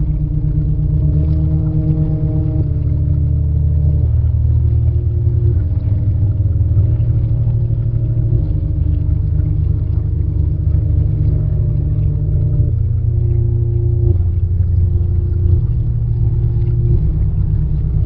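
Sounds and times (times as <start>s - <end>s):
low ambient drone: 0.0s - 18.0s.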